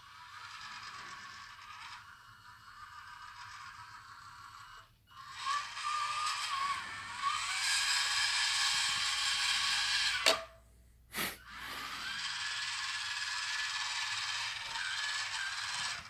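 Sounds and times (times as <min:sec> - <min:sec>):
toy tractor motor whirring: 0:00.0 - 0:10.5, 0:11.2 - 0:16.0.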